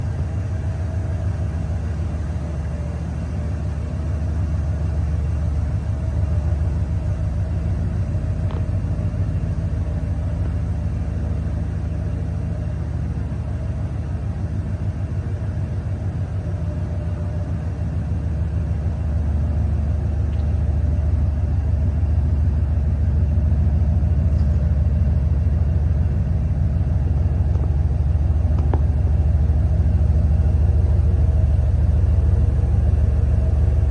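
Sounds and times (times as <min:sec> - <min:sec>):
pickup truck engine idling: 0:00.0 - 0:33.9.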